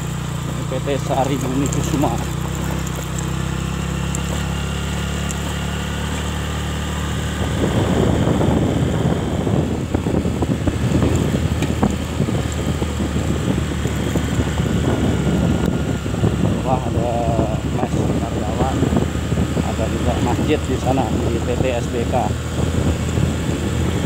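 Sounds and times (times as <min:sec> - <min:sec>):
tyres rumbling over gravel: 0:00.0 - 0:06.6, 0:10.2 - 0:23.2
engine hum: 0:00.0 - 0:24.0.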